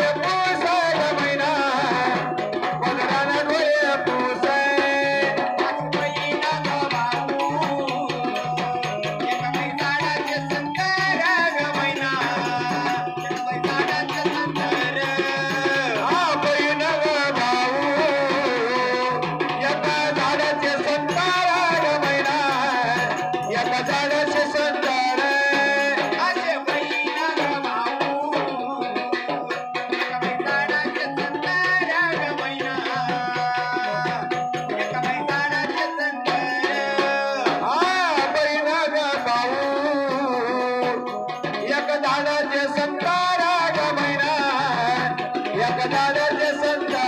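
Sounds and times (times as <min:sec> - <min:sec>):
keyboard melody: 0:00.0 - 0:47.0
person singing: 0:00.0 - 0:47.0
tabla drum rhythm: 0:00.0 - 0:47.0.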